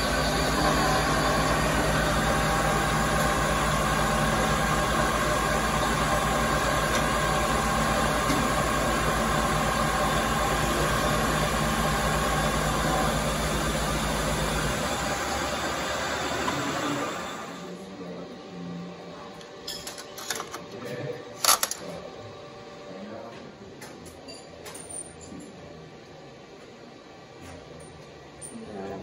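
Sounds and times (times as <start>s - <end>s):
milling machine whine: 0.0s - 23.3s
milling machine hum: 0.0s - 23.7s.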